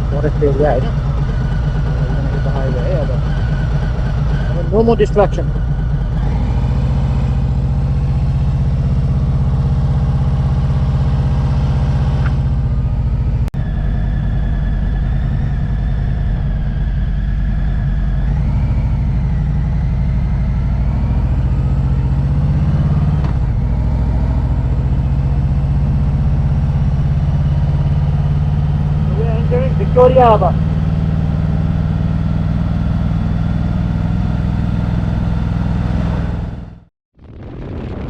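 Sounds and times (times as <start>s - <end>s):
motorcycle engine running: 0.0s - 13.5s, 14.4s - 36.9s.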